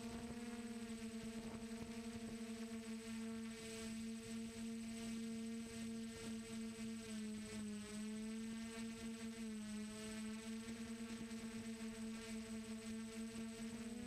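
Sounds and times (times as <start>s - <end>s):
quadcopter motors humming: 0.0s - 14.0s.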